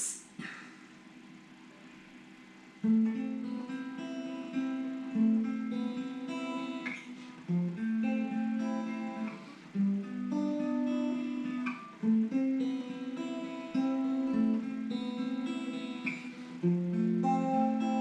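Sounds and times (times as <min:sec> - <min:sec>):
acoustic guitar picking and strumming: 0:02.8 - 0:18.0.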